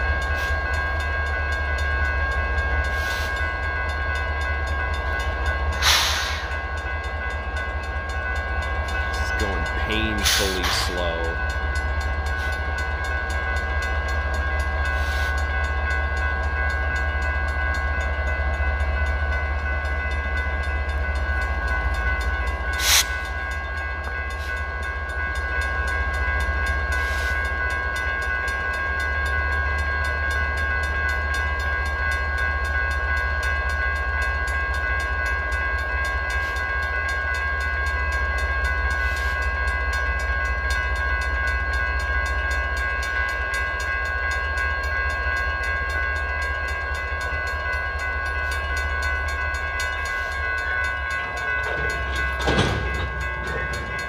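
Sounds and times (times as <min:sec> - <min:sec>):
crossing warning bell ringing: 0:00.0 - 0:54.0
freight train rumbling: 0:00.0 - 0:54.0.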